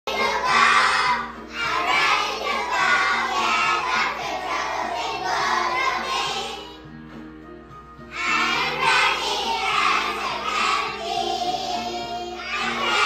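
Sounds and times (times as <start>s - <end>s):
children singing in unison: 0.1s - 6.8s, 8.1s - 13.0s.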